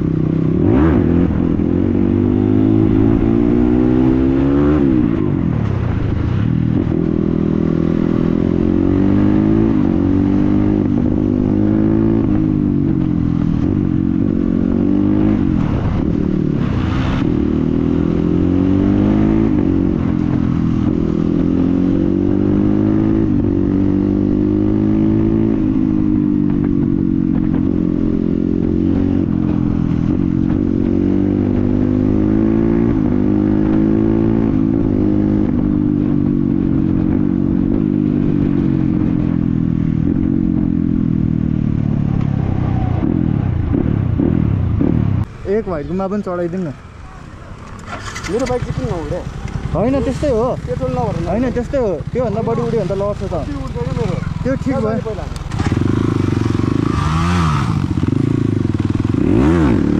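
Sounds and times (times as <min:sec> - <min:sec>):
dirt bike engine accelerating: 0:06.7 - 0:59.9.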